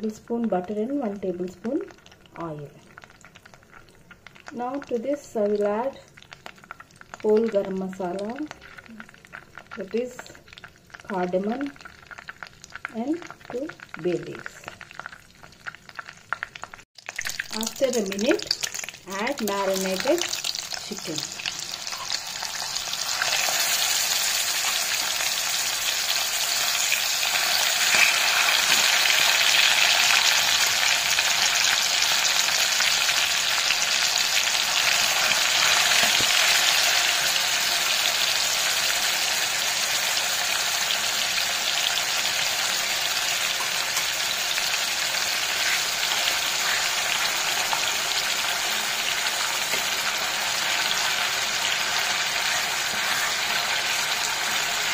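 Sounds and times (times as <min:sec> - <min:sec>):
chicken sizzling in oil: 0:00.0 - 0:54.9.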